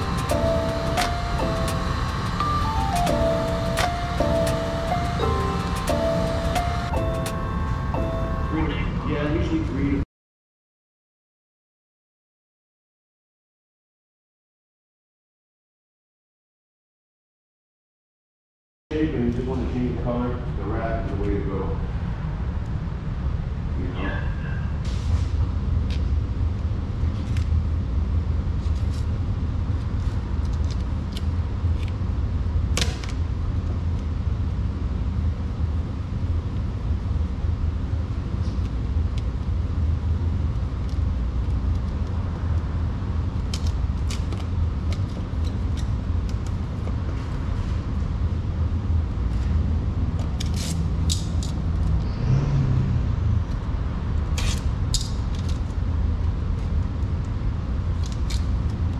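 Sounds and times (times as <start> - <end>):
steady low rumble: 0.0 - 10.0, 18.9 - 58.9.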